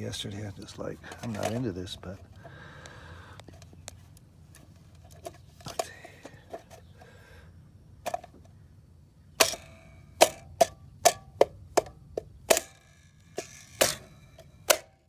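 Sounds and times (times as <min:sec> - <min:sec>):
wheel cap clicking into place: 0:00.2 - 0:07.1, 0:08.0 - 0:08.6, 0:09.4 - 0:15.0.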